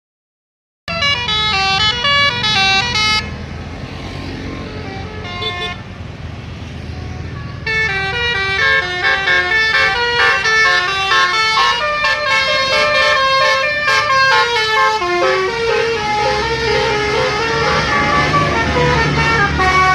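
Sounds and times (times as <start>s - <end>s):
multi-tone bus horn melody: 0.9s - 3.4s, 4.2s - 6.0s, 6.9s - 19.9s
engine and road noise: 0.9s - 19.9s.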